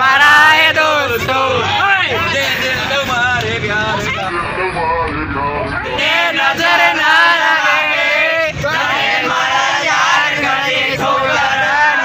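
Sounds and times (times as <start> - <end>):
young men singing and chanting: 0.0 - 5.0, 5.8 - 12.0.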